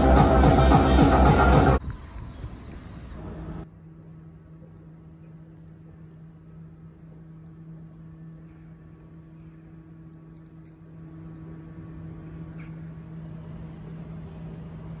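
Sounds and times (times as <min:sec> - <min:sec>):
electric train hum: 0:00.0 - 0:15.0.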